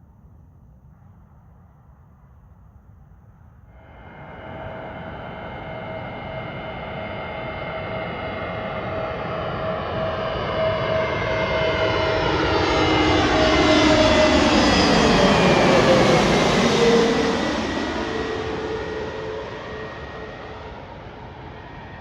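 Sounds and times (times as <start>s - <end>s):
jet airliner engine whine: 3.7s - 22.0s.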